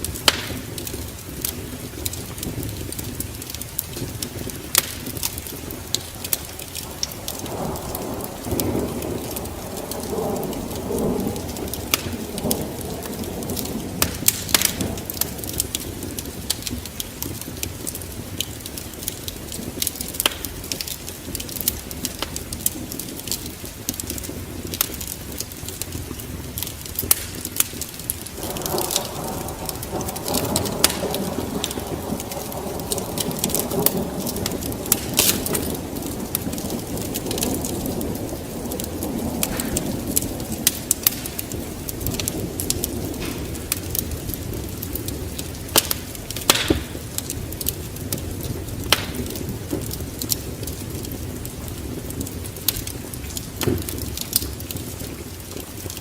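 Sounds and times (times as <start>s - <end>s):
steady rain: 0.0s - 56.0s
thunder rumbling: 0.0s - 56.0s
wood fire crackling: 0.0s - 56.0s.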